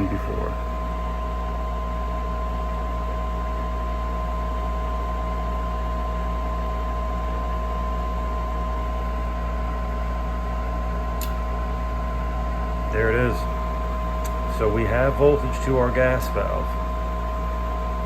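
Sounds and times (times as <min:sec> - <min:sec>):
furnace inducer motor humming: 0:00.0 - 0:18.0.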